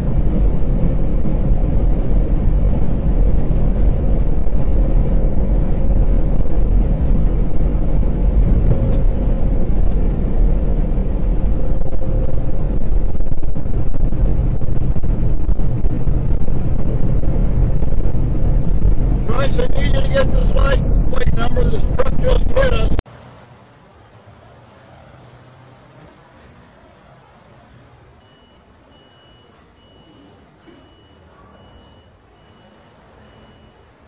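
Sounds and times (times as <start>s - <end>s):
road noise: 0.0s - 34.0s
truck engine rumble: 0.0s - 34.0s.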